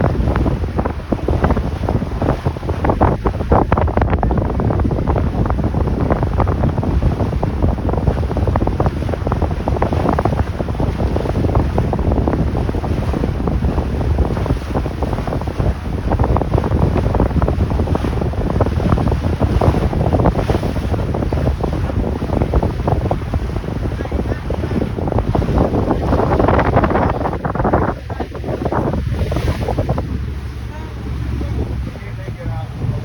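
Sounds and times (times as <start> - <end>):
water noise: 0.0 - 33.0
wind buffeting microphone: 0.0 - 33.0.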